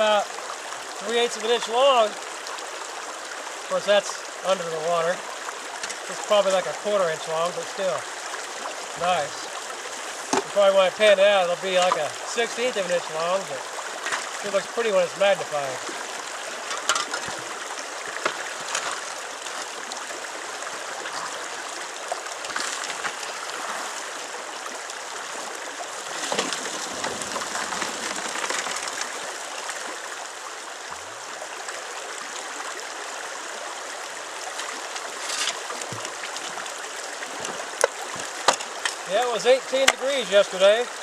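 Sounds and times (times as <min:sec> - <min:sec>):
river flowing over rocks: 0:00.0 - 0:41.0.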